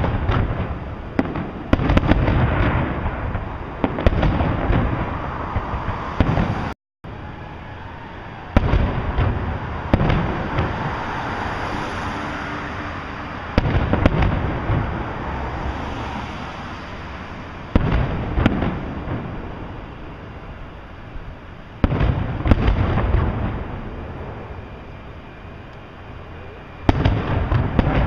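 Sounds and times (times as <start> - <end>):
fireworks bursting with rumbling tail: 0.0 - 12.0, 12.6 - 28.0.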